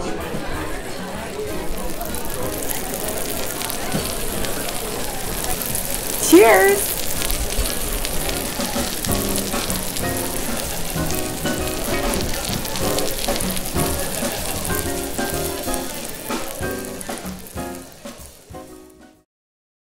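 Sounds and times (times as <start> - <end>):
crackling sizzle: 0.2 - 19.2.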